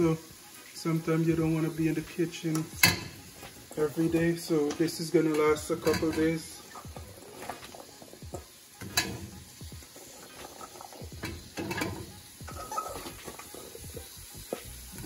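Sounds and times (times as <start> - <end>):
light sizzle: 0.0 - 15.0.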